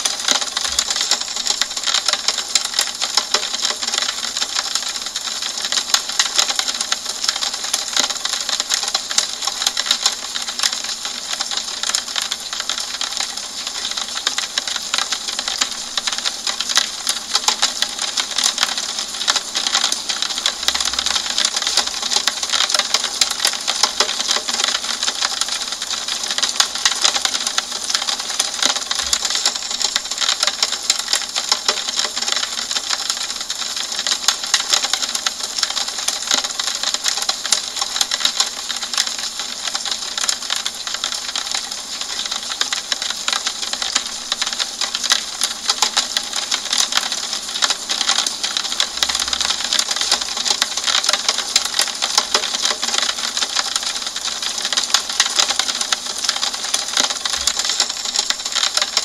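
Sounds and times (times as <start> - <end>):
rain on a window pane: 0.0 - 59.0.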